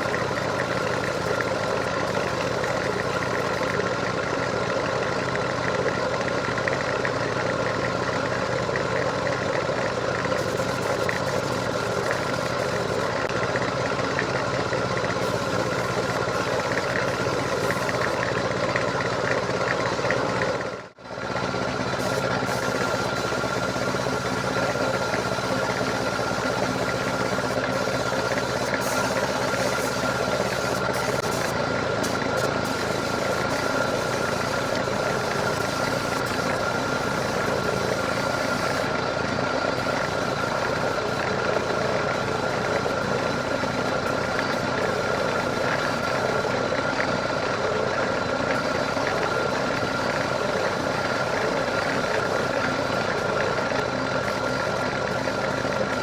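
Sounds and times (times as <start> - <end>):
motor running with a whine: 0.0 - 56.0.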